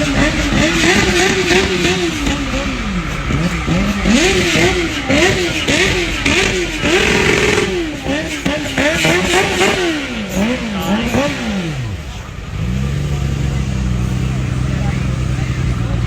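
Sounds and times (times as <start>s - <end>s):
car engine revving in blips: 0.0s - 16.0s.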